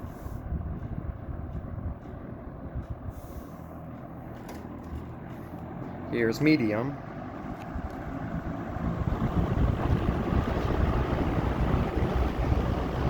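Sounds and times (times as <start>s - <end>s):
box fan motor hum: 0.0s - 13.0s
fan grate vibrating against frame: 0.0s - 13.0s.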